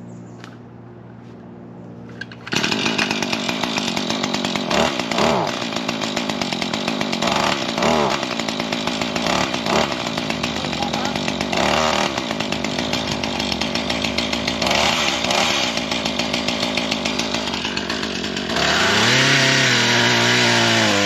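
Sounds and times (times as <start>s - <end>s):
chainsaw cutting into log: 2.2s - 21.0s.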